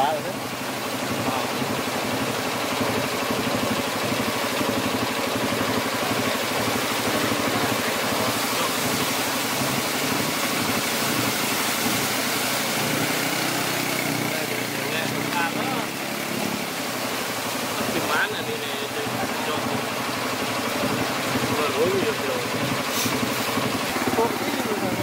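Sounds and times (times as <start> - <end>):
continuous hiss: 0.0 - 25.0
quad bike engine running: 0.0 - 25.0.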